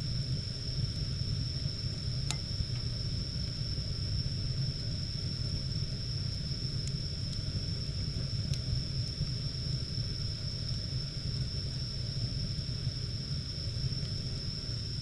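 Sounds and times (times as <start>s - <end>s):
fire crackles: 0.0s - 15.0s
wood fire rumbling: 0.0s - 15.0s.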